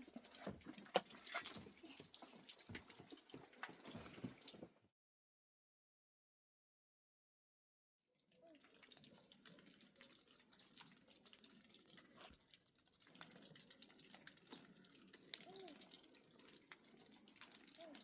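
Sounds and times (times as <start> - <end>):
faint dripping water: 0.0 - 4.8, 8.1 - 18.0.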